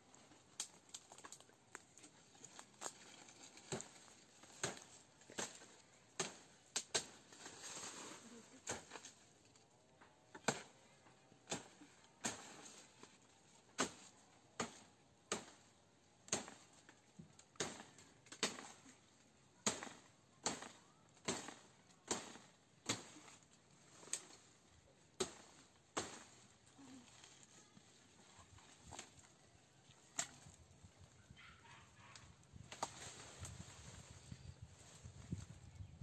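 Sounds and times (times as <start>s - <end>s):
branches cracking when chopped: 0.2s - 8.0s, 8.6s - 9.7s, 10.3s - 33.7s.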